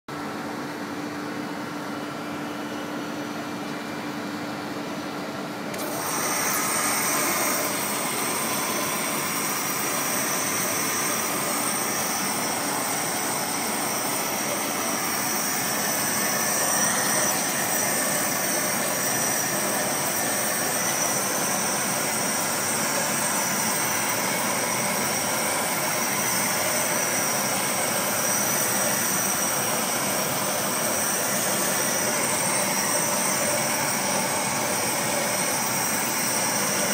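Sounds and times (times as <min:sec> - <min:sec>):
laser cutter whirring: 0:00.1 - 0:36.9
high-pitched whine: 0:05.7 - 0:36.9.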